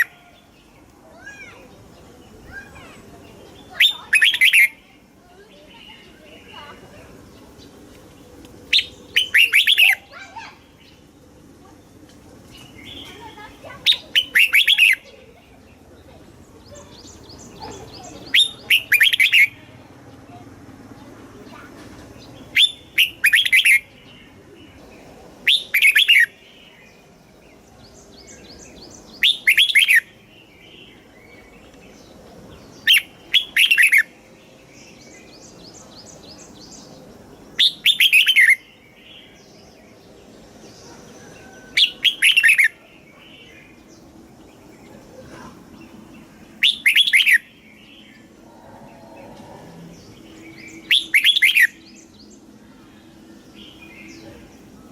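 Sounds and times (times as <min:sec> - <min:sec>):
bird warbling song: 0:00.0 - 0:54.9
faint bird chirps and trills: 0:00.0 - 0:54.9.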